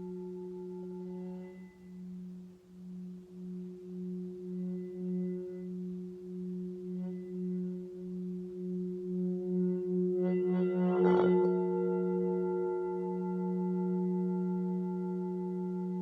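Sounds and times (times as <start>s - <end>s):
singing bowls humming: 0.0s - 16.0s.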